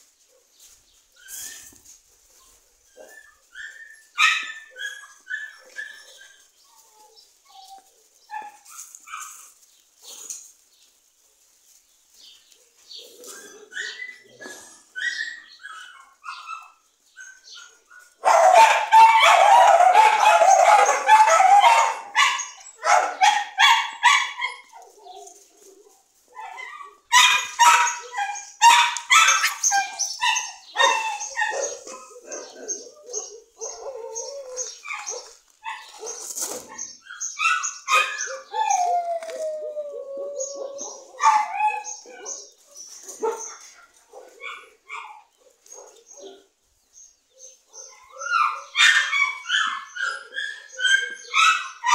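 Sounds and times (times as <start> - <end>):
dogs barking and yipping: 1.2 - 10.5, 12.5 - 46.6, 47.4 - 51.9.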